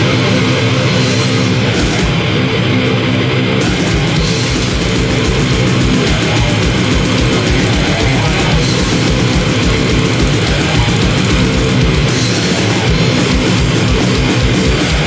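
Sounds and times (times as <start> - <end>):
distorted electric guitar: 0.0 - 15.0
fast pounding drum beat: 0.0 - 15.0.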